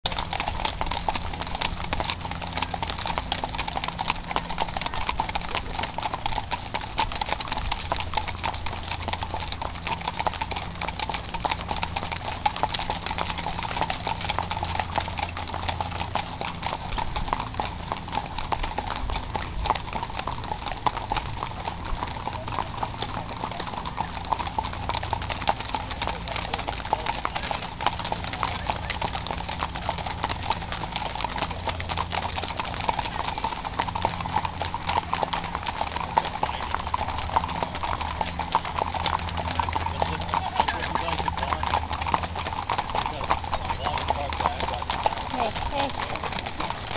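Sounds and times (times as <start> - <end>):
horses hooves on wet pavement: 0.0 - 46.9.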